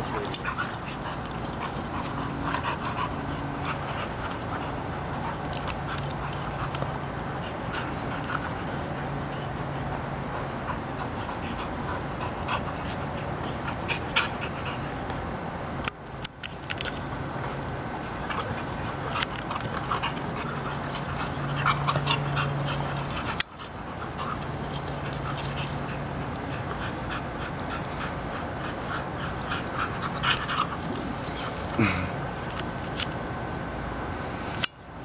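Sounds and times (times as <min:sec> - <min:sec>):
dogs breathing hard: 0:00.0 - 0:15.9, 0:16.5 - 0:32.9
steady low hum: 0:00.0 - 0:35.0.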